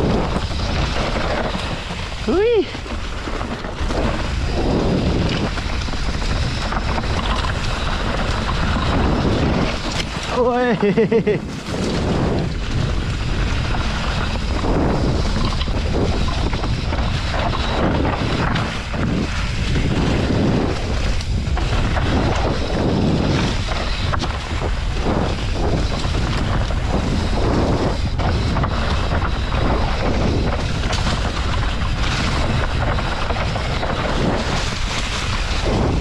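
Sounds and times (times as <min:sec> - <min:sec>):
mountain bike rumble and rattle: 0:00.0 - 0:36.0
wind rush on microphone: 0:00.0 - 0:36.0.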